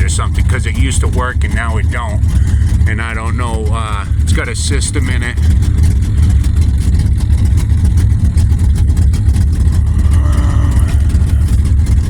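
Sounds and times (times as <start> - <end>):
vee eight engine idling: 0.0 - 12.0.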